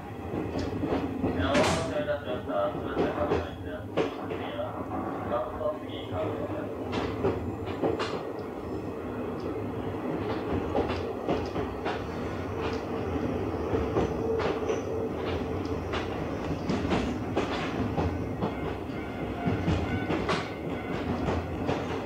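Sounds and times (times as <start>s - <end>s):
train coach rumbling: 0.0s - 22.0s.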